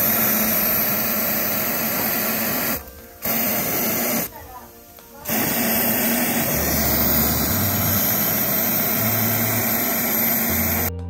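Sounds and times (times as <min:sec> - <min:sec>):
aerosol spray hissing: 0:00.0 - 0:11.0.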